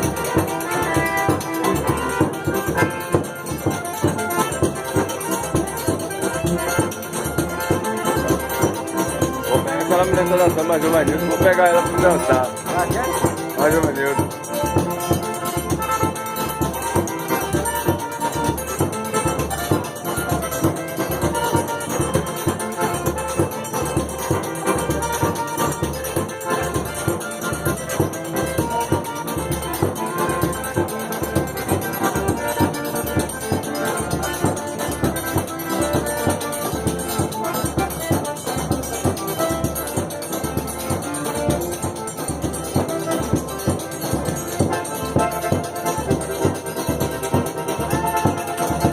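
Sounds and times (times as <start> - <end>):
rattling percussion: 0.0 - 48.9.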